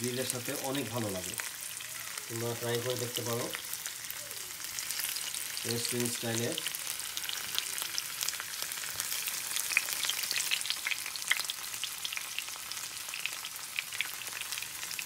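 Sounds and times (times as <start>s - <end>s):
potatoes sizzling in oil: 0.0s - 15.0s.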